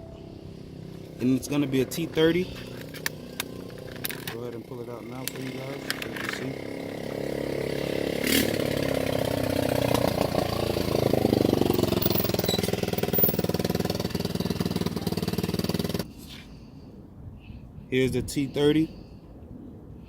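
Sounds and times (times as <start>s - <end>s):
engine running: 0.0s - 16.1s.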